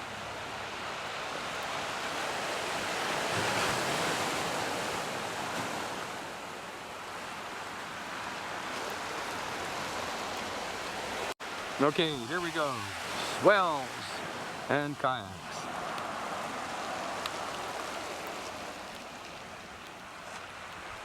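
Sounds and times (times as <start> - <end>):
ocean surf rushing onto shore: 0.3 - 21.0.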